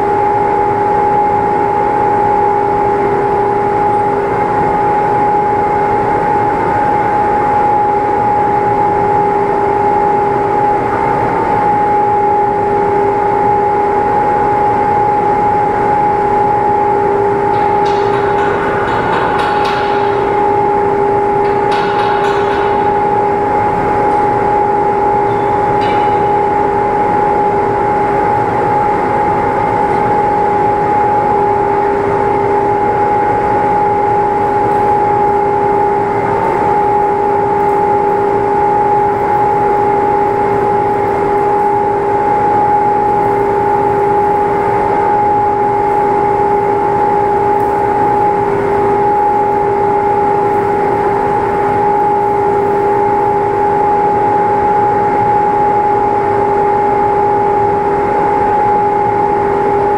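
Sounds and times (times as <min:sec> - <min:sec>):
machine humming: 0:00.0 - 0:59.9.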